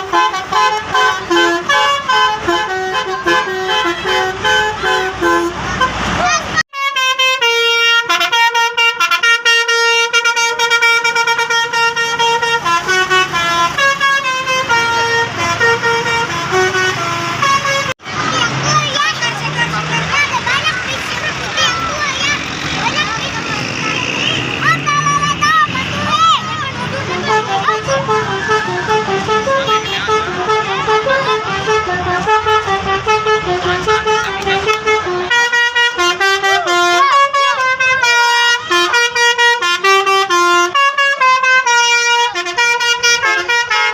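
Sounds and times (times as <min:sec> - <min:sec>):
multi-tone bus horn melody: 0:00.0 - 0:43.9.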